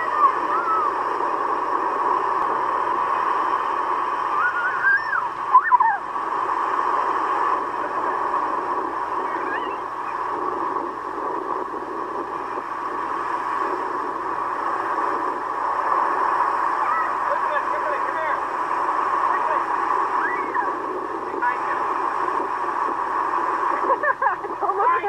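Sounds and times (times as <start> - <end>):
surf breaking on a beach: 0.0 - 25.0.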